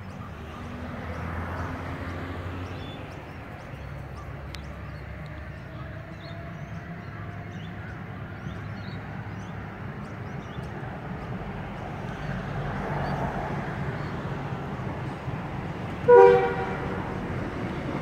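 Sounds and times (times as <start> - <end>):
electric train motors and wheels rumbling: 2.4 - 18.0.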